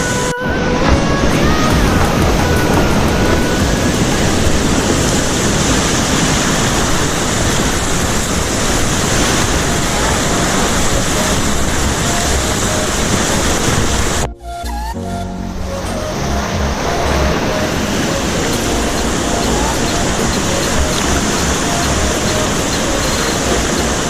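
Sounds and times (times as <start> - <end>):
small waterfall rushing: 0.0 - 14.3, 15.8 - 24.0
pitched tones: 0.0 - 24.0.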